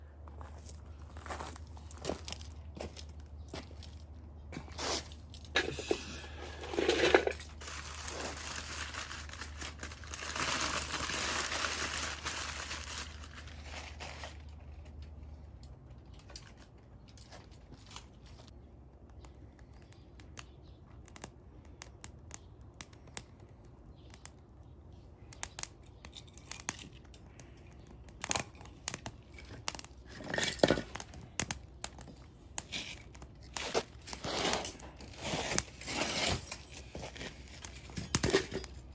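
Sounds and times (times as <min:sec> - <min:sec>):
crinkling and rustling: 0:00.3 - 0:18.6, 0:26.0 - 0:38.9
fire crackling: 0:01.8 - 0:15.9, 0:18.4 - 0:38.9.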